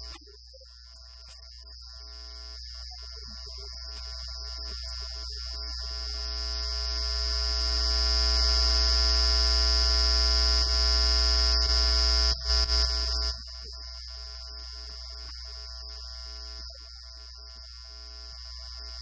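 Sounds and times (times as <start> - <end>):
electronic buzz with high whine: 0.0 - 19.0.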